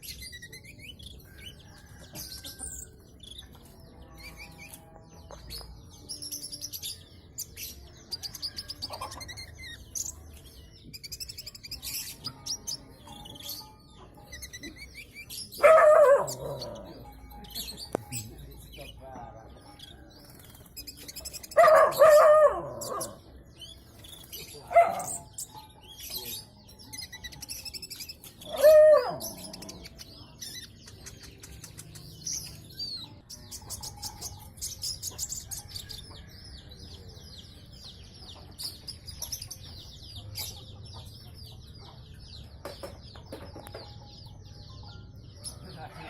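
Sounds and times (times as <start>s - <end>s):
bird high-pitched twittering song: 0.0s - 46.0s.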